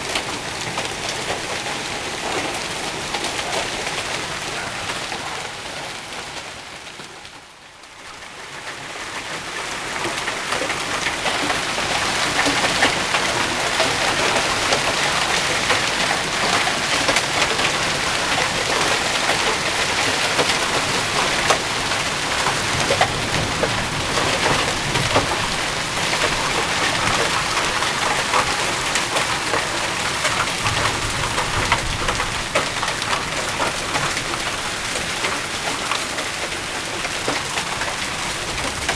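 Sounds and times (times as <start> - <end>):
hailstones ticking: 0.0 - 6.5, 8.0 - 38.9
heavy rain: 0.0 - 38.9.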